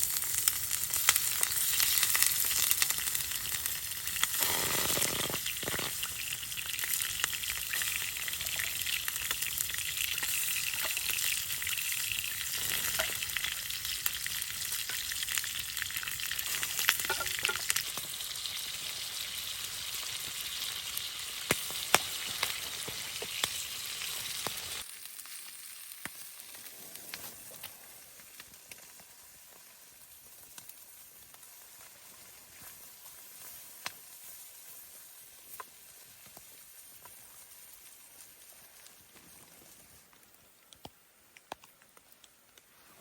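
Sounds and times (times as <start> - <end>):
fire popping and crackling: 0.0 - 18.7, 21.5 - 40.1
sizzling hiss over a fire: 0.0 - 43.0.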